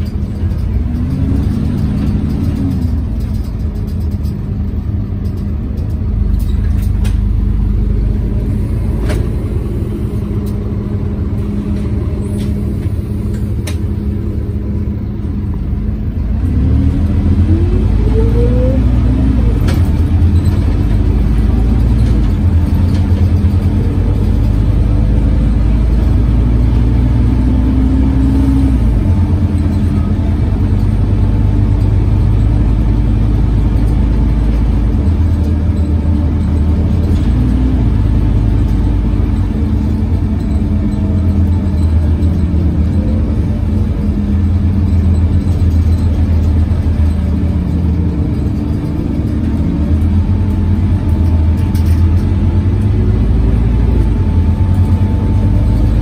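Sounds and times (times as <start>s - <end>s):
bus cooling fan drone: 0.0s - 56.0s.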